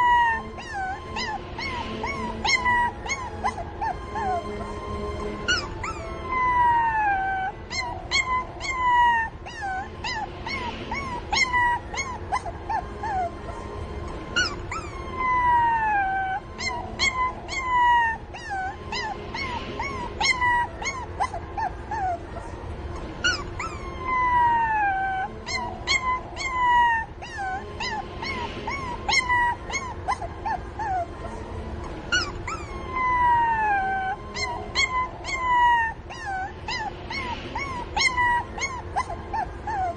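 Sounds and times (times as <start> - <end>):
puppies whimpering and crying: 0.0 - 39.9.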